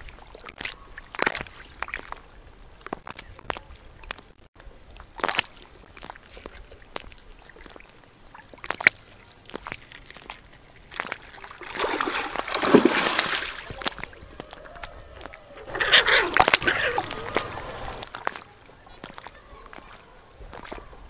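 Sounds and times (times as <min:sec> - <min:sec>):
fish splashing in water: 0:00.0 - 0:02.3, 0:05.1 - 0:20.9.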